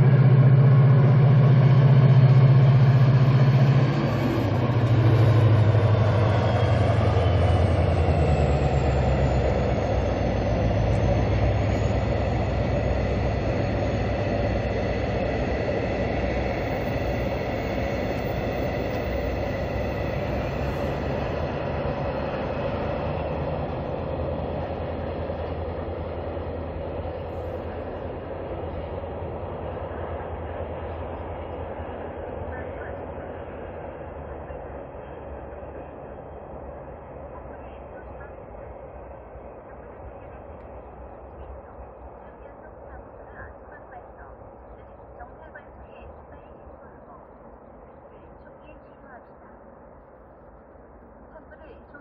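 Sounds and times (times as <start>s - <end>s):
locomotive engine drone: 0.0s - 52.0s
wagons rumbling on rails: 0.0s - 52.0s.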